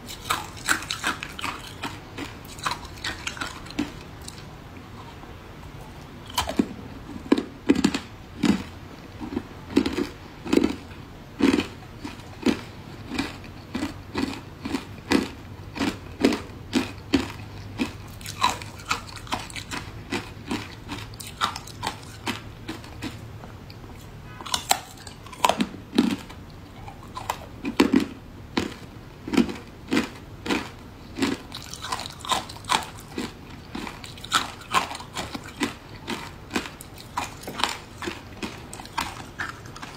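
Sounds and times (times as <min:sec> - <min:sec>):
crunching ice between teeth: 0:06.2 - 0:23.2, 0:24.4 - 0:39.9.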